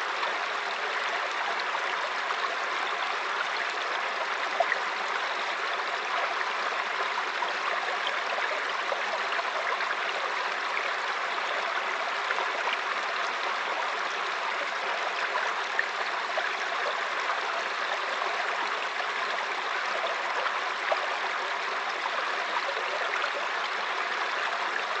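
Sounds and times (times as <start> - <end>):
stream flowing over rocks: 0.0 - 25.0.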